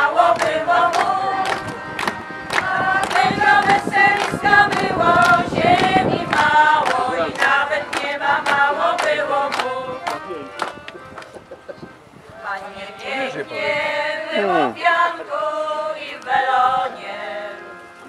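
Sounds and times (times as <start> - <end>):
women's choir singing: 0.0 - 10.1, 12.3 - 17.9
accordion: 0.0 - 18.0.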